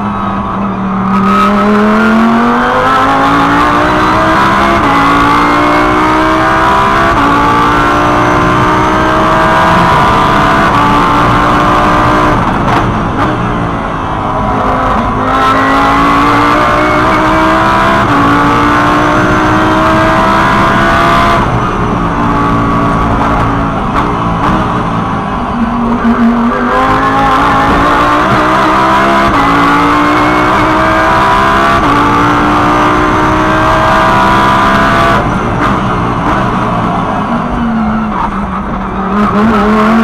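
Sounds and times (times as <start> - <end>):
race car engine at full throttle: 0.0 - 40.0.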